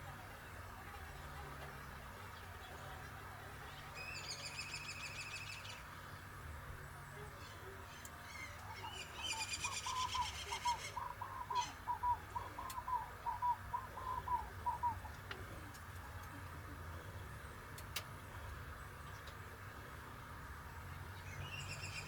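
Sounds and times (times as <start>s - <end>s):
birds chirping trills: 1.2s - 20.0s, 20.6s - 22.0s.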